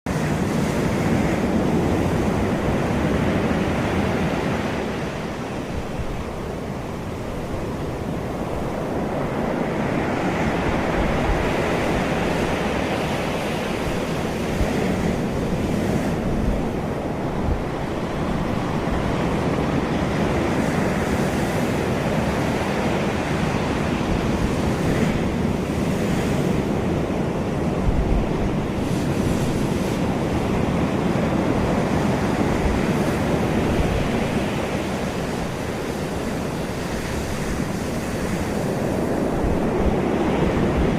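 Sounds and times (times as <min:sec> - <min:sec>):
ocean waves breaking on beach: 0:00.1 - 0:40.9
wind buffeting microphone: 0:00.1 - 0:40.9.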